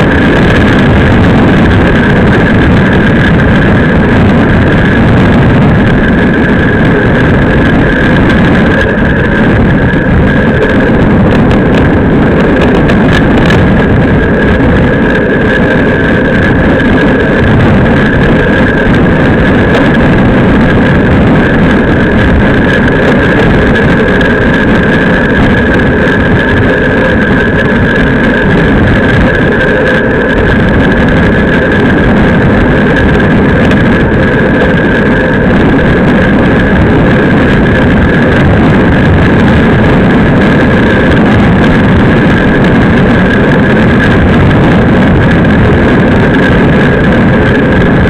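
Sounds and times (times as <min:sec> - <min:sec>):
bike tyre roar: 0:00.0 - 0:48.0
wind rushing on microphone: 0:00.0 - 0:48.0.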